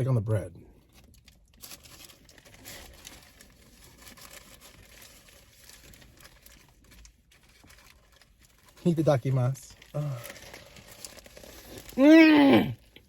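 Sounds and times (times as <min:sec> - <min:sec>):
paper wrapper crinkling: 0:00.8 - 0:13.0.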